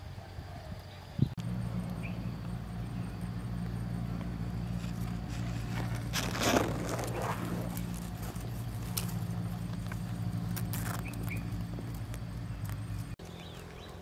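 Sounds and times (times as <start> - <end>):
rustle: 0.0 - 14.0
honeybee swarm humming: 1.4 - 14.0.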